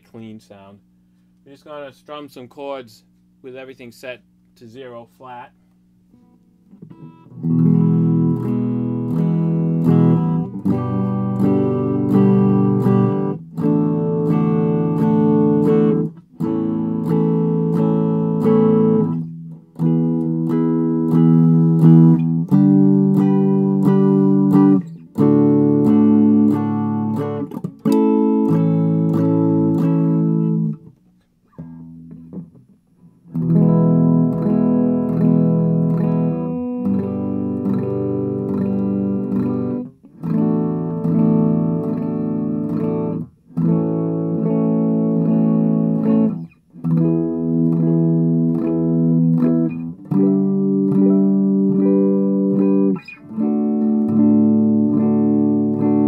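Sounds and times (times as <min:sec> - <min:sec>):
electric guitar strumming chords: 0:06.1 - 0:56.0.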